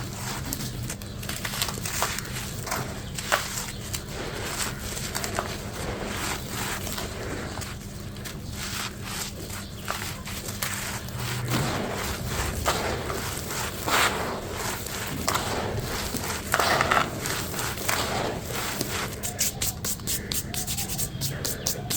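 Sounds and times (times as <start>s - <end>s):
crumble blocks crunching: 0.0s - 21.9s.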